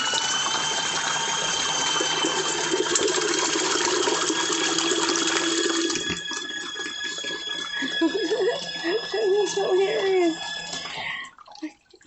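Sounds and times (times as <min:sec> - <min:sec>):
faint motor whine: 0:00.0 - 0:11.3
washing machine water sloshing: 0:00.0 - 0:12.0.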